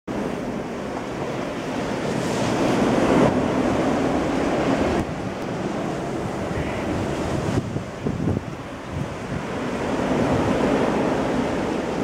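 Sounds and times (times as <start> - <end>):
wind buffeting microphone: 0.1 - 12.0.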